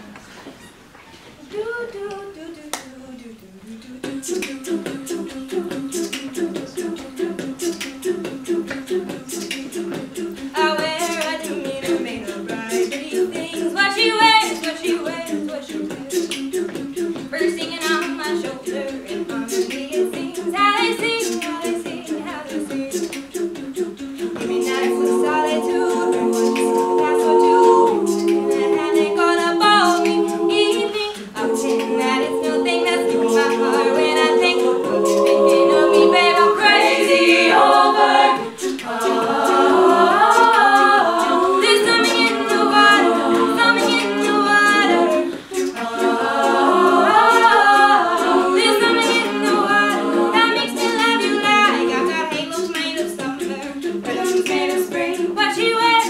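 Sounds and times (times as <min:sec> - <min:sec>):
female a cappella group singing: 0:01.4 - 0:56.0.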